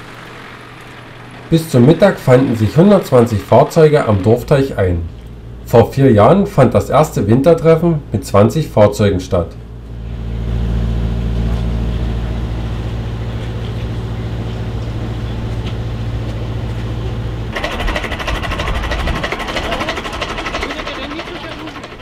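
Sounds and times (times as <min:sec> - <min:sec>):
tractor engines idling: 0:00.0 - 0:08.8, 0:09.6 - 0:22.0.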